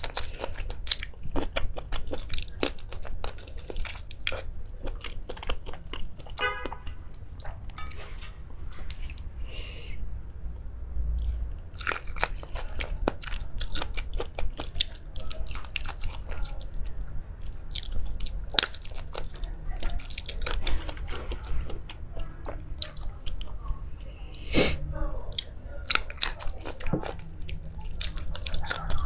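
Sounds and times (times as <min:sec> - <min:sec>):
person chewing crunchy food: 0:00.0 - 0:08.2, 0:11.2 - 0:23.6, 0:24.3 - 0:29.0.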